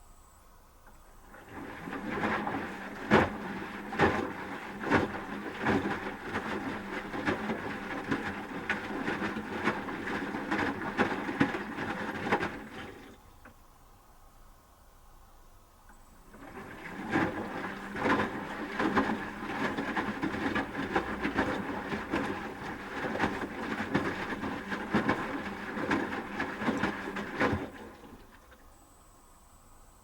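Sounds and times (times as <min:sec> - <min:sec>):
washing machine motor hum: 0:01.2 - 0:13.2, 0:16.2 - 0:28.6
wet laundry tumbling in drum: 0:01.2 - 0:13.2, 0:16.2 - 0:28.6.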